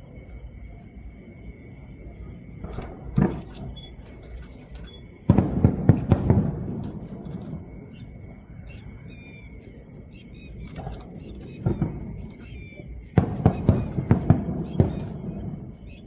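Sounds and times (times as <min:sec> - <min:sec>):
fireworks booming: 0:01.9 - 0:16.0.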